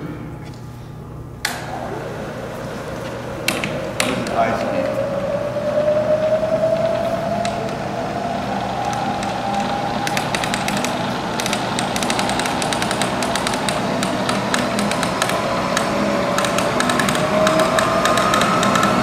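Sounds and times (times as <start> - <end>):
milling machine spindle whine: 1.4 - 19.0
rapid irregular clicking: 1.5 - 19.0.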